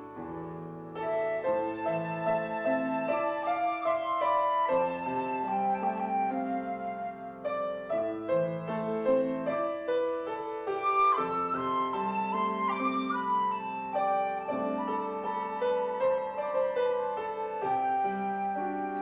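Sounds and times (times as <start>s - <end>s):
flute and piano melody: 0.0s - 19.0s.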